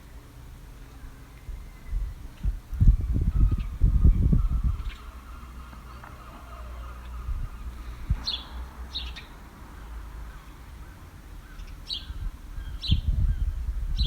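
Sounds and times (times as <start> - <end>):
birds chirping: 1.5 - 14.0.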